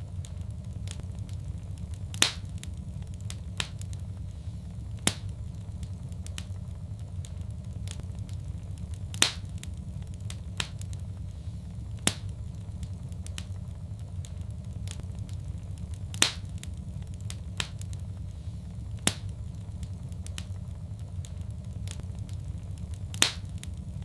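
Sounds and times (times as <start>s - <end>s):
sharp pops of fire: 0.0s - 24.0s
steady low rumble: 0.0s - 24.0s
wood fire crackling: 0.0s - 24.0s.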